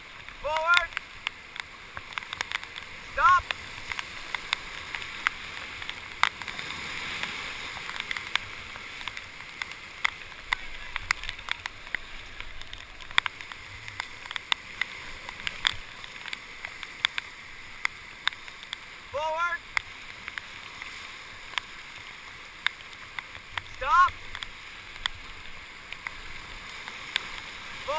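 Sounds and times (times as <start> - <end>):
rushing whitewater: 0.0 - 27.9
water splashes: 0.0 - 27.9.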